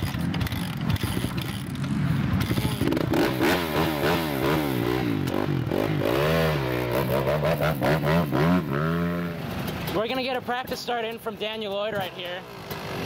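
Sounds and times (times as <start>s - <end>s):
dirt bike engine revving: 0.0s - 10.9s, 12.3s - 13.0s.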